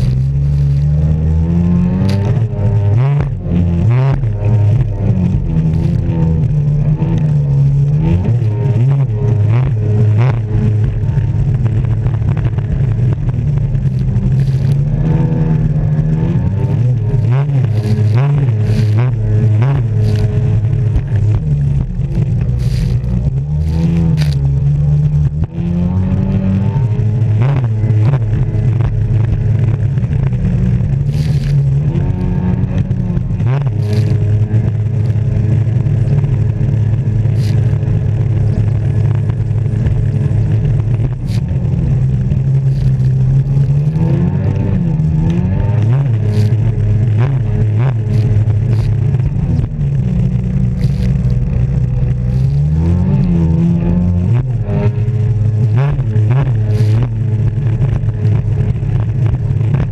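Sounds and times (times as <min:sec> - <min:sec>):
jet ski engine running hard: 0:04.2 - 0:25.4, 0:27.1 - 0:52.6, 0:53.8 - 0:59.9.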